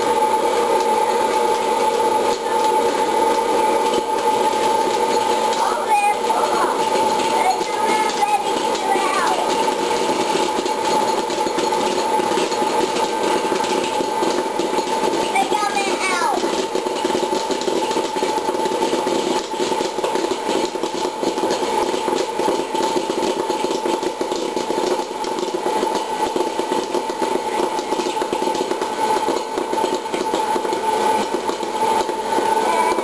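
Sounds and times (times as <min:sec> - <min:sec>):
popcorn hitting metal bowl: 0:00.0 - 0:33.0
popcorn kernels popping: 0:00.0 - 0:33.0
popcorn popper fan whine: 0:00.0 - 0:33.0.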